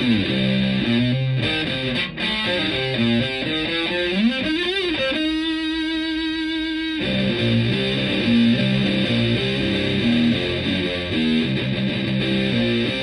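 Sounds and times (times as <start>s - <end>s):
fuzzy electric guitar lead: 0.0s - 13.0s.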